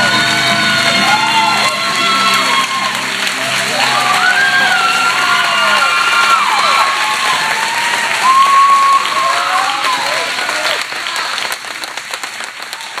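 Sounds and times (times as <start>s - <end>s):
whoops and cheers: 0.0s - 10.9s
audience applauding: 0.0s - 13.0s.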